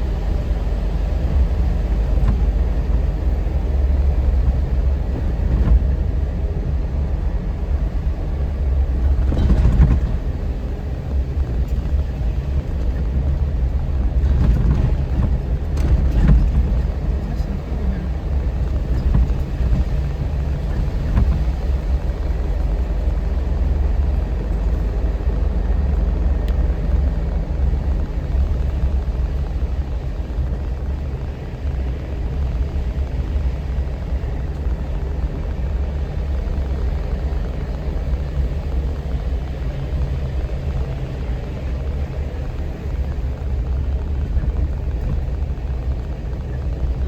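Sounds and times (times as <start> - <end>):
vehicle engine and tyre rumble: 0.0 - 47.0.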